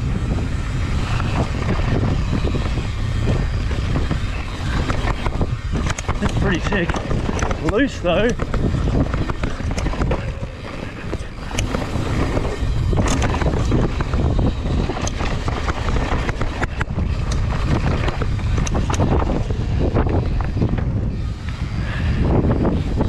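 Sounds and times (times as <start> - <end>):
bike tyre noise on dirt: 0.0 - 23.0
wind buffeting microphone: 0.0 - 23.0.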